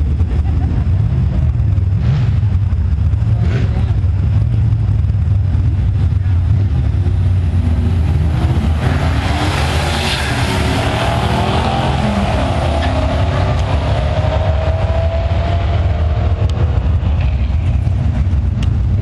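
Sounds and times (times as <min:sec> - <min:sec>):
drag racing car engines: 0:00.0 - 0:19.0
steady low rumble: 0:00.0 - 0:19.0.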